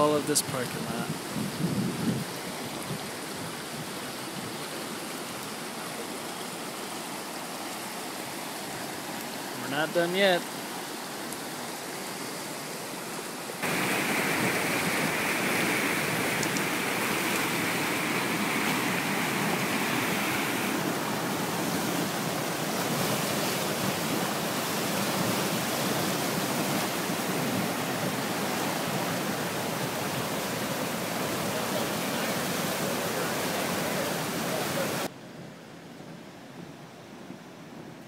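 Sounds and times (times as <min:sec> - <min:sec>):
flooded river rushing: 0:00.0 - 0:37.7.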